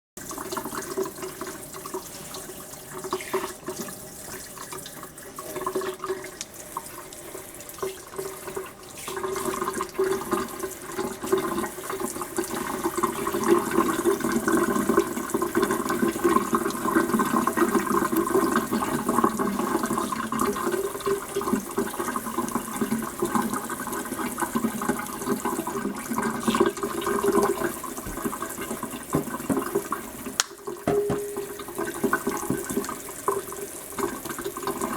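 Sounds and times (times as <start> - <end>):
water running from a tap: 0.2 - 34.9.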